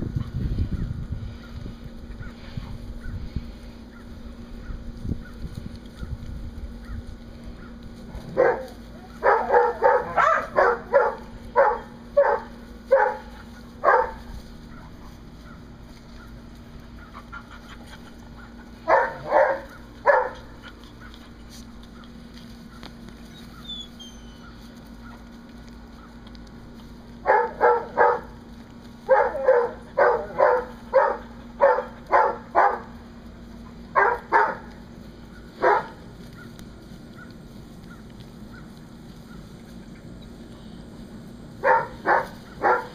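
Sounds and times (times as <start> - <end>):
puppies yapping: 0.0 - 42.9.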